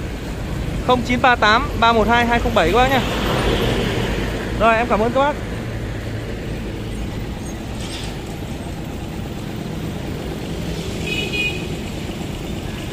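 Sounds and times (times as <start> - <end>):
low rumble of traffic: 0.0 - 12.9.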